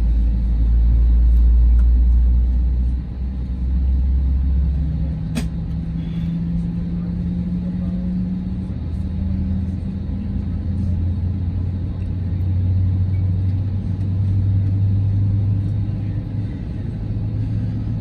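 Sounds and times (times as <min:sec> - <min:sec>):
deep hum: 0:00.0 - 0:18.0
low rumble inside aircraft cabin: 0:00.0 - 0:18.0
steady higher hum: 0:00.0 - 0:18.0.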